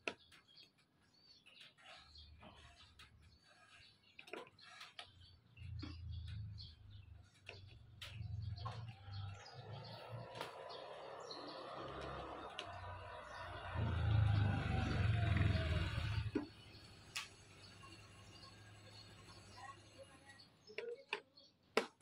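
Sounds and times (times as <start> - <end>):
birds chirping: 0.0 - 21.7.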